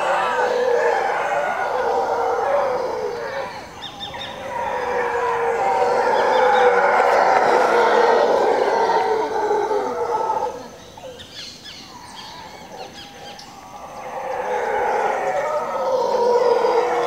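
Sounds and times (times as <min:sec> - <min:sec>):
howler monkeys howling: 0:00.0 - 0:17.0.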